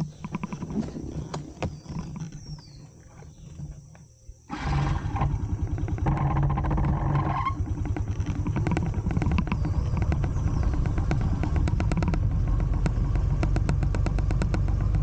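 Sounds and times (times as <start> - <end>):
motorcycle engine pulsing: 0.0 - 15.0.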